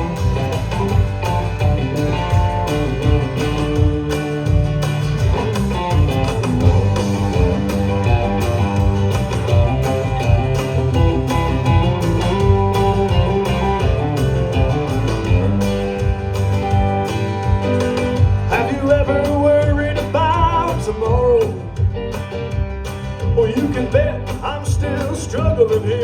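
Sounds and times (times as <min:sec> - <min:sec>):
live band instrumental: 0:00.0 - 0:26.0.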